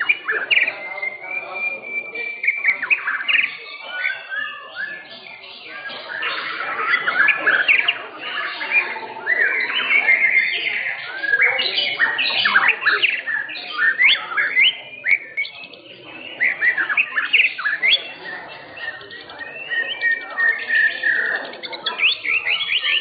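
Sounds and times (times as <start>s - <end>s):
songbirds whistling: 0.0s - 23.0s.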